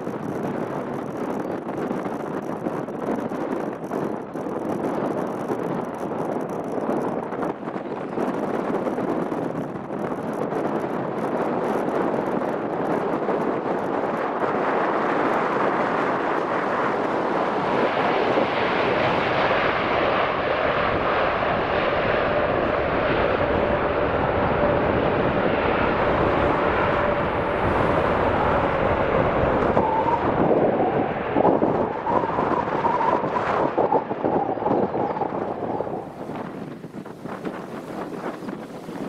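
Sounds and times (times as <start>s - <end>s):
jet engine rumble: 0.0s - 39.0s.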